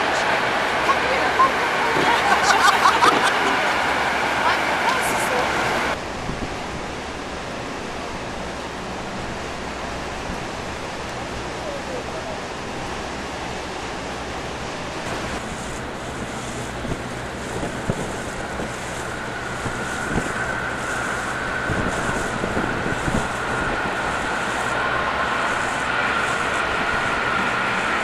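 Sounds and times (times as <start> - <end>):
freight train rumbling: 0.0 - 28.0
high steady whine: 0.0 - 28.0
wind noise: 0.0 - 28.0.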